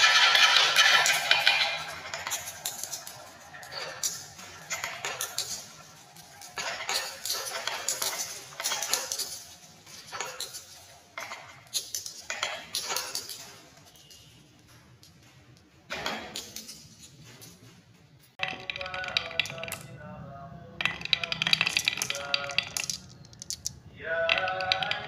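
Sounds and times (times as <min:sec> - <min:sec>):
marbles clicking together: 0:00.0 - 0:14.1, 0:18.4 - 0:25.0
glass marbles rolling on tracks: 0:00.0 - 0:14.4, 0:18.4 - 0:25.0.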